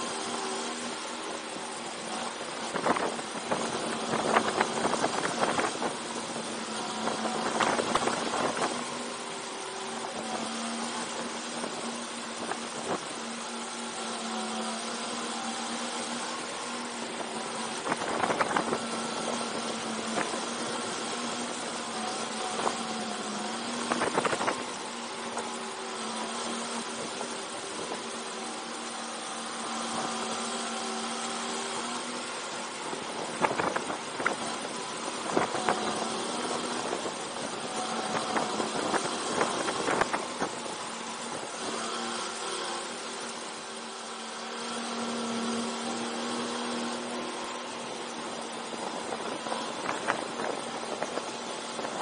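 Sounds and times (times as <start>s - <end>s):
go-kart engine running: 0.0s - 52.0s.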